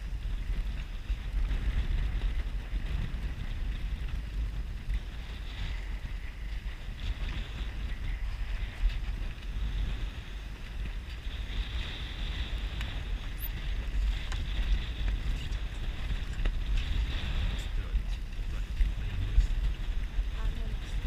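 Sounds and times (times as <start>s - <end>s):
hiss of wind and water: 0.0s - 21.0s
wind buffeting microphone: 0.0s - 21.0s.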